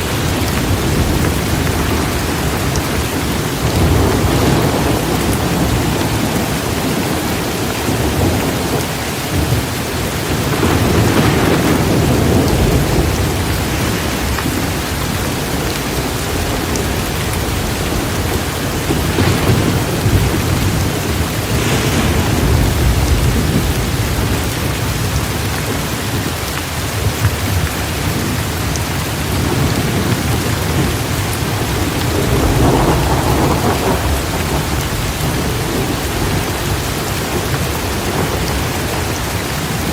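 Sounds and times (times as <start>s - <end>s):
heavy rain pouring: 0.0s - 39.9s
low rolling thunder: 0.0s - 39.9s.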